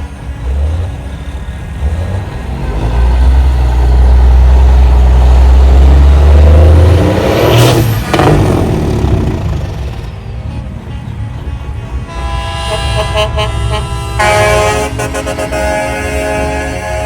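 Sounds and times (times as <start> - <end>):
diesel truck engines rumbling: 0.0 - 17.0
trucks rushing past: 0.0 - 17.0.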